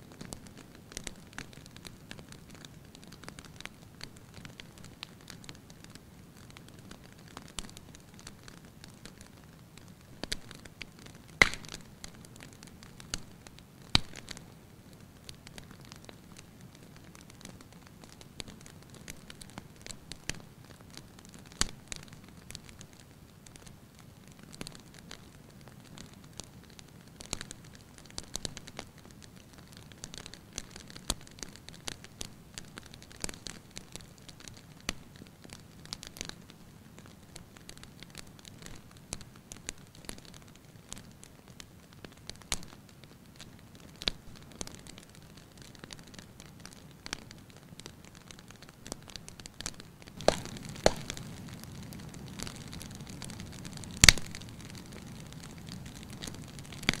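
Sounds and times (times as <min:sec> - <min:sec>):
wood fire crackling: 0:00.0 - 0:57.0
low rumble of flames: 0:00.1 - 0:57.0.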